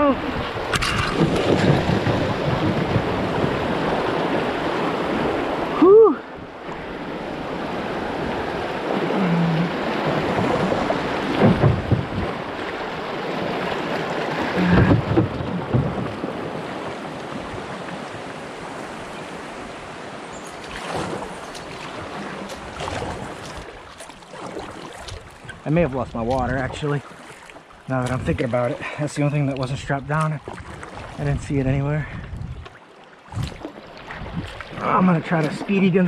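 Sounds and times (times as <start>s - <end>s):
low thumps and splashes: 0.0s - 36.0s.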